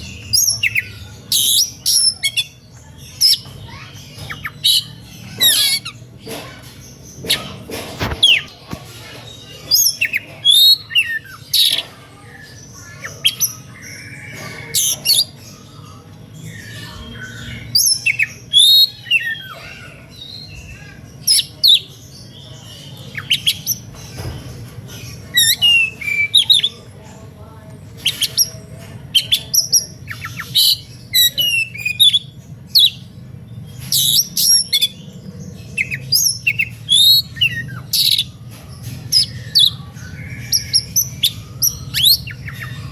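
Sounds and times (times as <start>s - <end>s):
magpie-robin singing: 0.0s - 42.9s.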